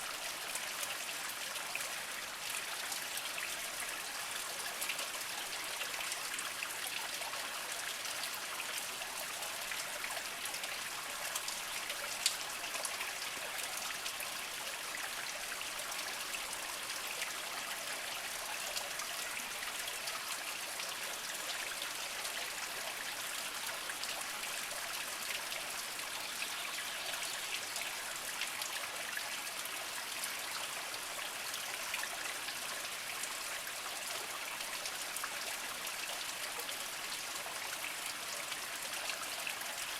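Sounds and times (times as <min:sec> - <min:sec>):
spring water trickling over rocks: 0:00.1 - 0:39.9.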